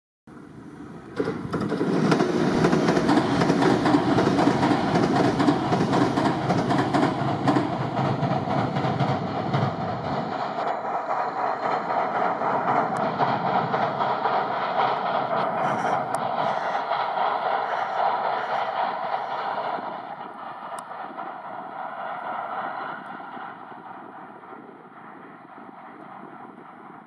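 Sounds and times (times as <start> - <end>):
train wheels clattering over rails: 0.9 - 27.0.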